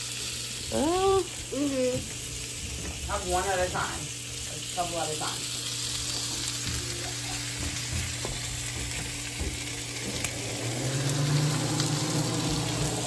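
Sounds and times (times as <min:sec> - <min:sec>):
chicken frying in oil: 0:00.0 - 0:13.0.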